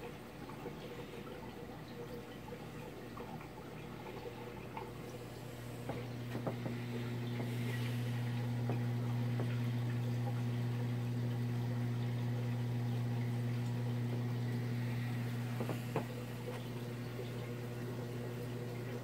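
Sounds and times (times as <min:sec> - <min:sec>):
aquarium pump humming: 0:00.0 - 0:19.0
water trickling and dripping: 0:00.0 - 0:19.0.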